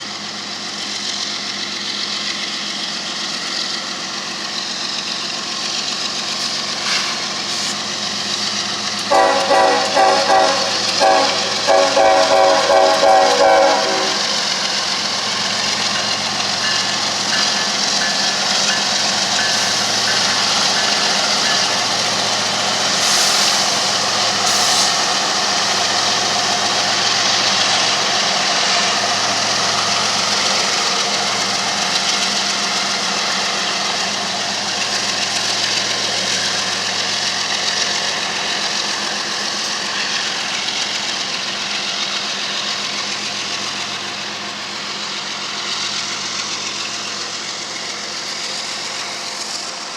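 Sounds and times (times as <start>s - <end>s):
diesel locomotive engine drone: 0.0s - 49.9s
train rolling by: 0.0s - 49.9s.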